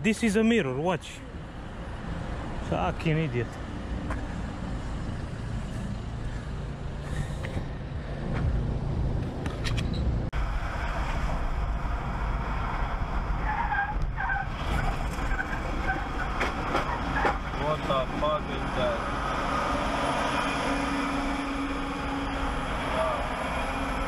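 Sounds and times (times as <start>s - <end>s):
car engine and road drone: 0.0s - 24.0s
outdoor traffic noise: 0.0s - 24.0s.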